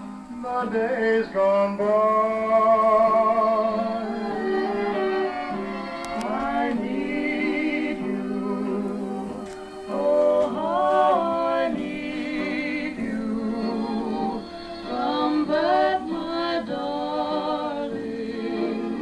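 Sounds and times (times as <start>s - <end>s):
old record playing sung vocal: 0.0s - 19.0s.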